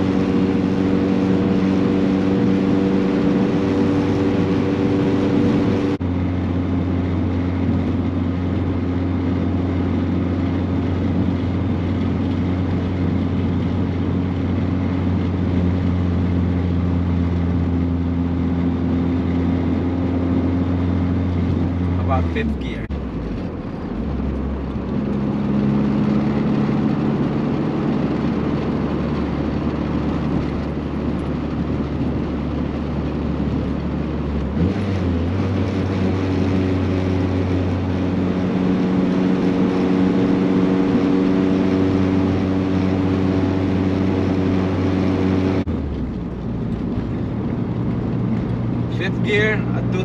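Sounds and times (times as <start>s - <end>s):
car engine drone in cabin: 0.0s - 50.0s.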